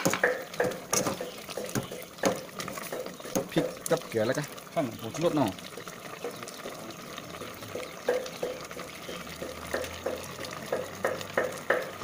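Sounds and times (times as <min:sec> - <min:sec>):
ladle stirring liquid in pot: 0:00.0 - 0:12.0
soft simmering hiss: 0:00.0 - 0:12.0.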